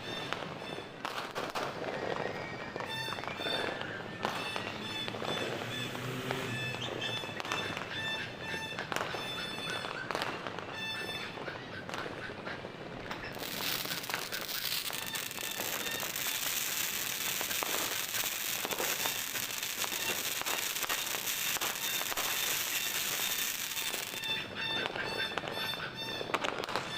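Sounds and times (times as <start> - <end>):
fireworks crackling and popping: 0.0 - 26.9.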